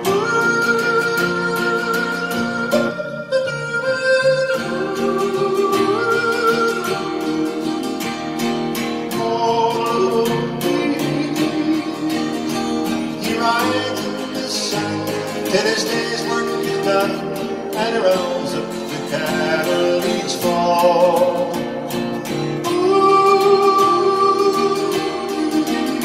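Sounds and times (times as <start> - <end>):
man yodel-style singing: 0.0 - 26.0
strummed acoustic string instrument: 0.0 - 26.0.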